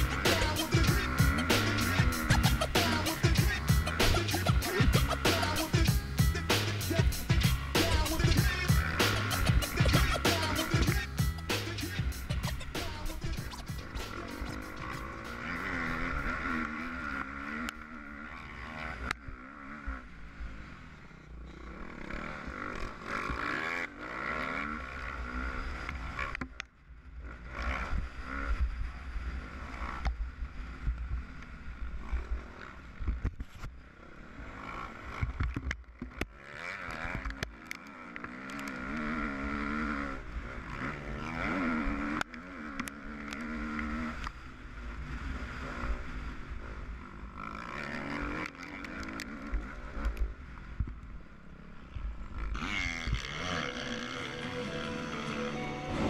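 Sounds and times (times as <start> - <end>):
dirt bike engine revving: 0.0 - 26.5, 27.1 - 33.1, 33.8 - 56.0.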